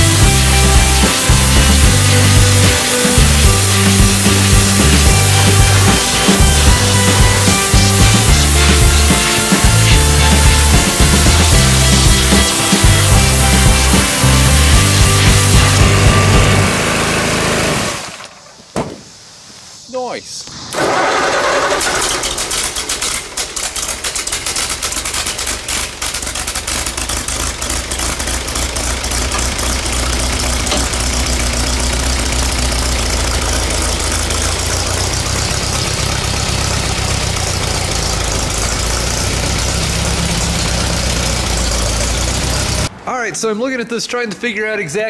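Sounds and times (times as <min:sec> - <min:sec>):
tractor engine running: 0:00.0 - 0:18.7, 0:20.5 - 0:43.1.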